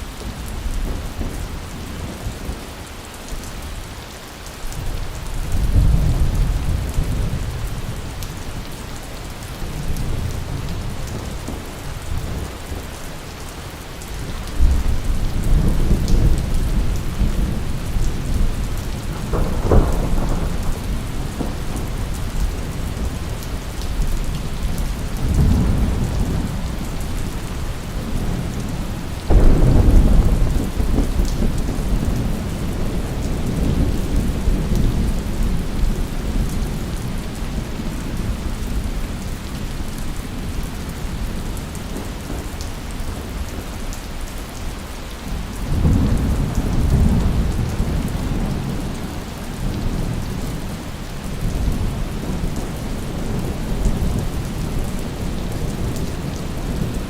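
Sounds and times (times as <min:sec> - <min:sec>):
steady rain falling: 0:00.0 - 0:57.0
thunder rumbling: 0:04.8 - 0:13.0, 0:14.2 - 0:44.2, 0:45.3 - 0:57.0.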